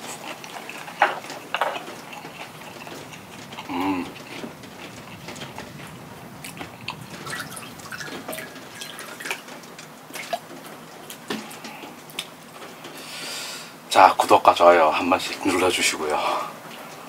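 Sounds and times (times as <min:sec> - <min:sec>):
rain drips pattering: 0:00.0 - 0:17.0.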